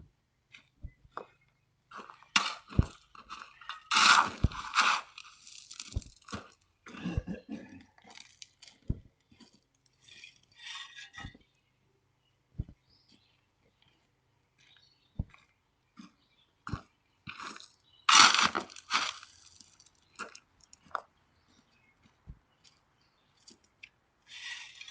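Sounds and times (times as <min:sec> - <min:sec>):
crunching and scraping in dirt: 0:00.5 - 0:11.8, 0:12.6 - 0:24.9.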